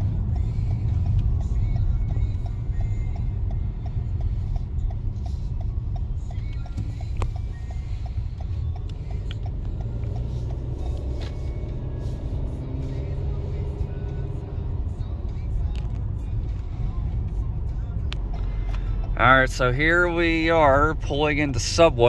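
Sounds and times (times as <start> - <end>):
car engine rumble: 0.0 - 22.0
road noise inside car: 0.0 - 22.0
turn signal ticking: 0.0 - 22.0.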